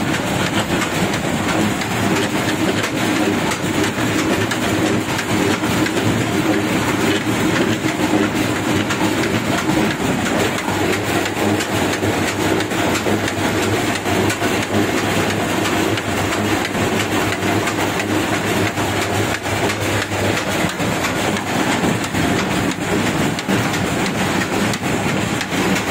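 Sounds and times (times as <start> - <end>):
oil press rattling clatter: 0.0 - 25.9.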